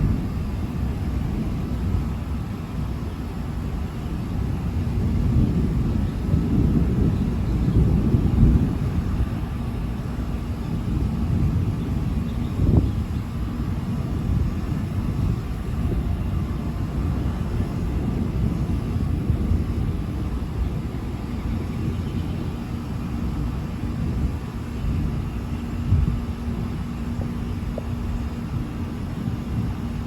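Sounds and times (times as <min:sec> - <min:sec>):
thunder rumbling: 0:00.0 - 0:30.0.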